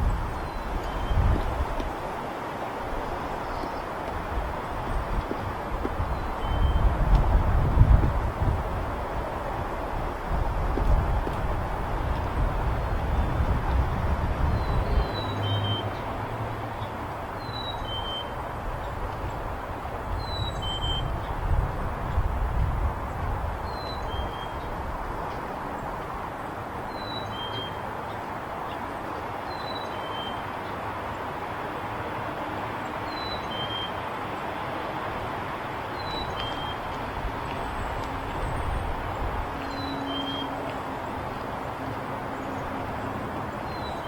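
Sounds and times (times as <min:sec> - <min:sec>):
highway traffic noise: 0:00.0 - 0:44.0.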